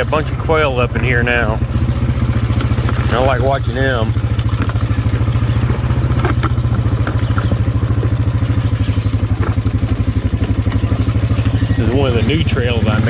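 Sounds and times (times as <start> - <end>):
atv engine chugging: 0.0 - 13.0
faint clicks and rattles: 0.0 - 13.0.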